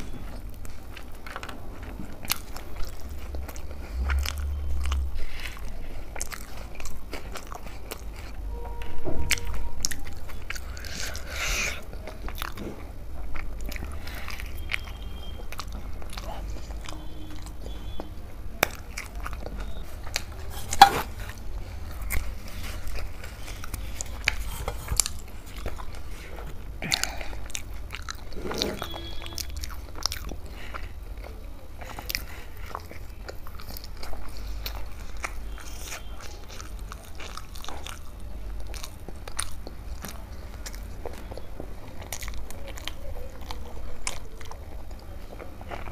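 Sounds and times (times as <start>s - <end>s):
chewing and biting: 0.0s - 45.9s.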